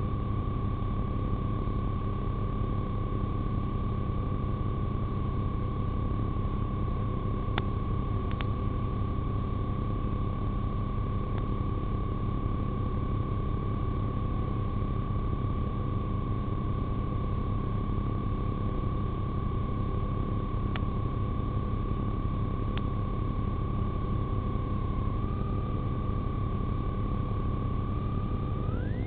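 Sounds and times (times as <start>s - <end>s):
constant low rumble: 5.0s - 13.6s, 14.3s - 29.0s.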